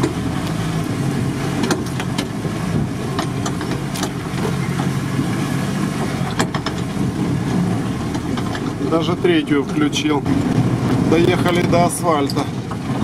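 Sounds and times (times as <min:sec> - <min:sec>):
body clicks and rattles: 0:00.0 - 0:00.6, 0:01.4 - 0:13.0
van engine running: 0:00.0 - 0:13.0.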